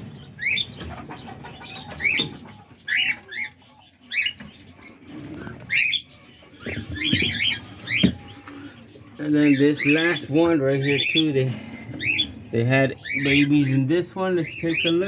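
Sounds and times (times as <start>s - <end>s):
parrots chirping: 0.0s - 15.0s.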